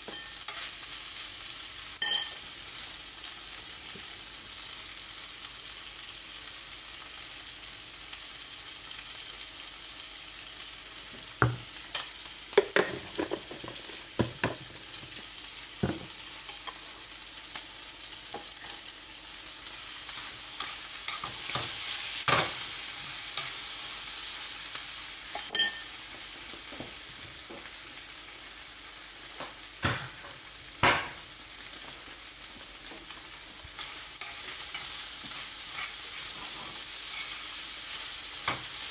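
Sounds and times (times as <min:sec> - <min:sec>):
food sizzling in a frying pan: 0:00.0 - 0:38.9.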